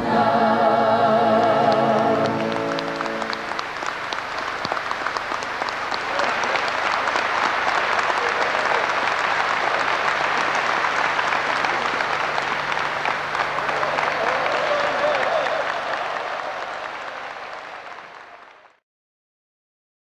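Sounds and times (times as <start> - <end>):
audience applause: 1.4 - 18.8.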